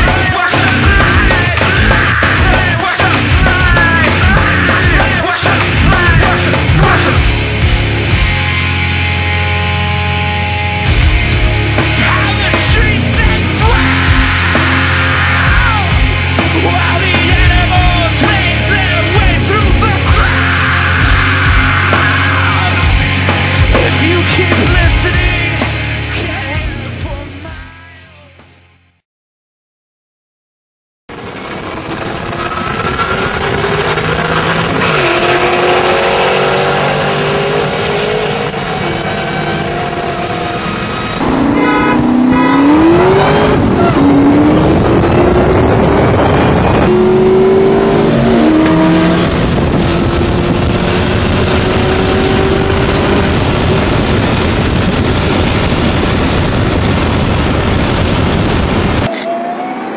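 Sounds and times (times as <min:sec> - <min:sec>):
car engine accelerating hard: 0:00.0 - 0:26.2, 0:31.1 - 0:59.1.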